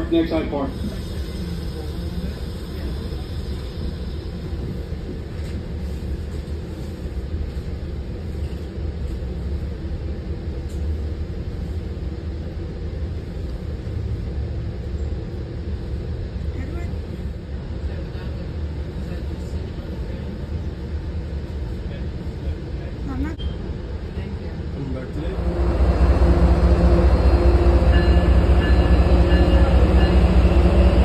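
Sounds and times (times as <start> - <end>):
train low rumble: 0.0 - 31.0.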